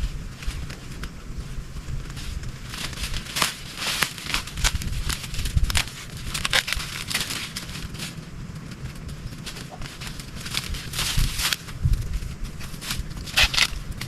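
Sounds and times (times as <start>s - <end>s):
dry plant matter crackling: 0.0s - 14.0s
low rumble: 0.0s - 14.0s.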